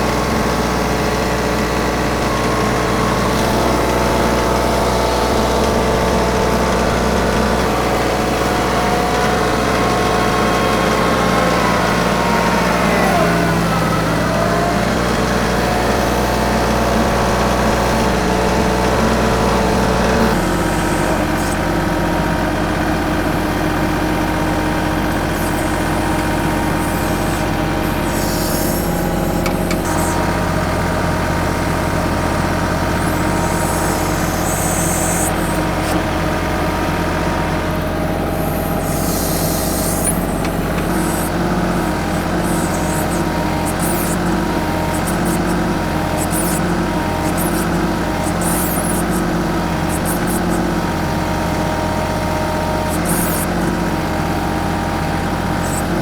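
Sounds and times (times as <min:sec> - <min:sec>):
tractor diesel engine running: 0:00.0 - 0:56.0
hydraulic hiss bursts: 0:02.0 - 0:56.0.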